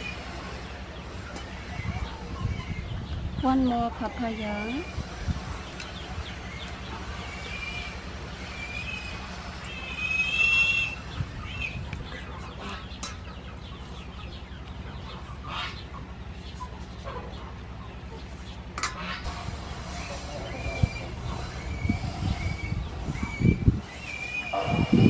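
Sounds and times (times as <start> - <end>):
hens clucking: 4.9 - 25.0.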